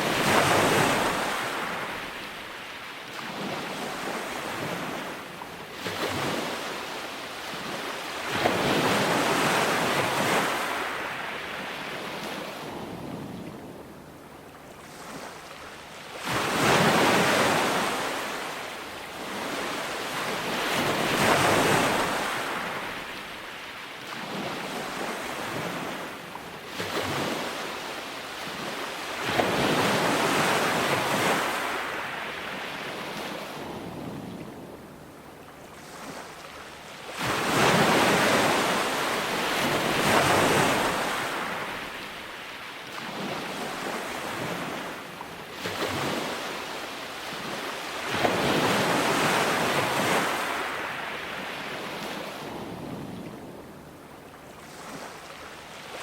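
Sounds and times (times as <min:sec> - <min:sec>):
ocean surf breaking on beach: 0:00.0 - 0:14.1, 0:14.8 - 0:56.0.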